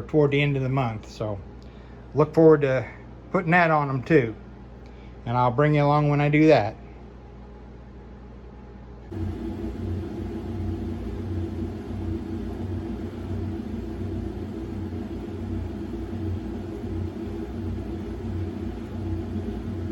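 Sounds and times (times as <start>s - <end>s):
low rumble with droning hum: 0.0s - 19.9s.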